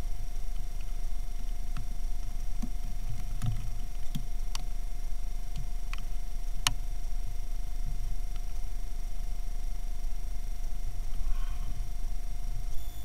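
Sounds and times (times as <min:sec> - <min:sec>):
steady electronic hum: 0:00.0 - 0:13.0.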